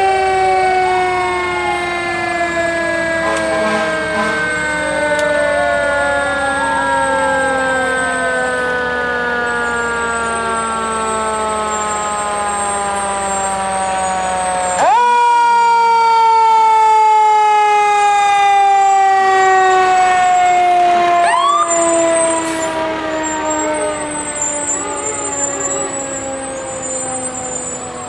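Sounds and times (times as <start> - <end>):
siren long falling tone: 0.0 - 28.0
siren wailing up and down: 0.0 - 28.0.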